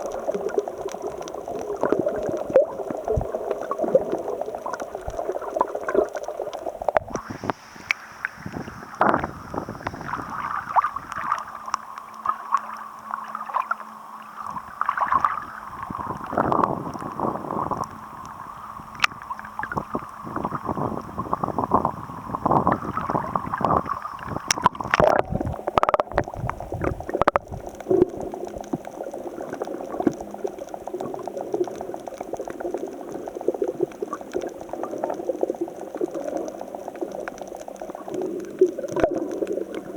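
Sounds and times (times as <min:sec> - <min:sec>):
sea water surging among rocks: 0:00.0 - 0:39.9.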